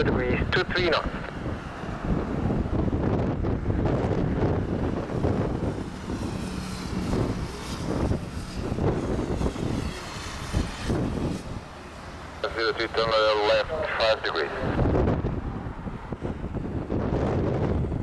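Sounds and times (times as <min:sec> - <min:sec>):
jet airliner engine: 0:00.0 - 0:18.0
wind buffeting microphone: 0:00.0 - 0:18.0.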